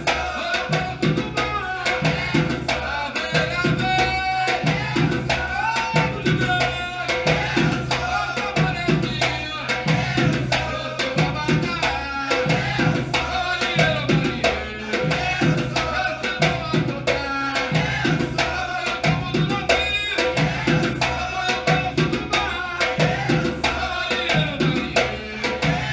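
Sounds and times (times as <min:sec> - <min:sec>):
hand drums playing rhythm: 0:00.0 - 0:25.9.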